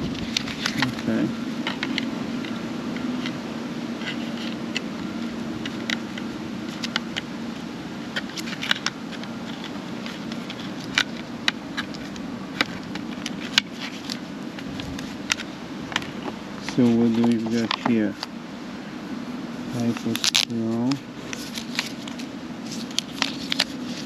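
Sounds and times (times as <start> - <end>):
cardboard and paper packaging handled: 0.0 - 18.4, 19.7 - 24.0
steady low hum: 0.0 - 24.0.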